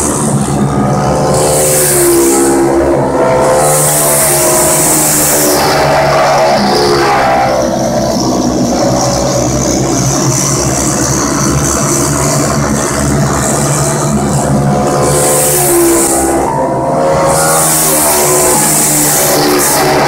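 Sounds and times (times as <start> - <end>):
go-kart engines racing: 0.0 - 20.0
go-kart passing close: 0.0 - 20.0.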